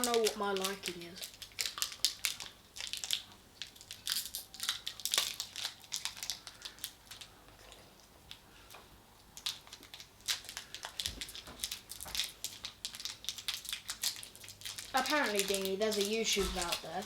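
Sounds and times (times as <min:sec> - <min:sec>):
snack wrappers crinkling: 0:00.0 - 0:17.0.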